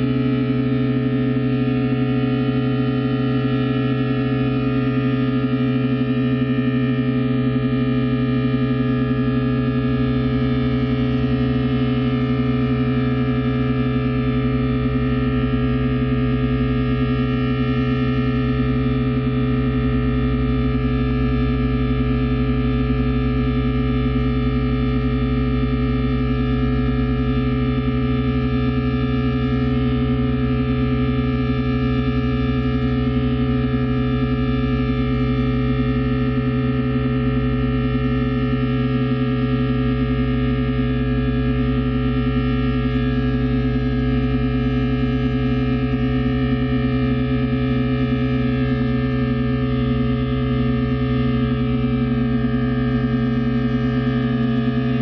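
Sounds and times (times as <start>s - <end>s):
experimental drone music: 0.0s - 55.0s
low pulsing beat: 0.0s - 55.0s.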